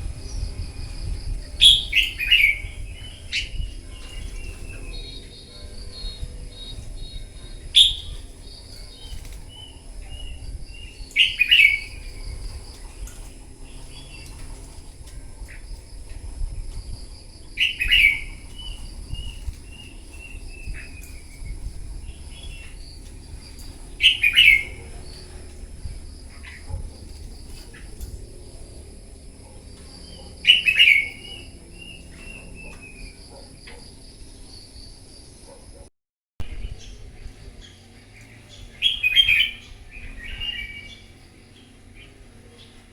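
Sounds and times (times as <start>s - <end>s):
bird song phrases: 0.0s - 35.8s, 36.4s - 42.9s.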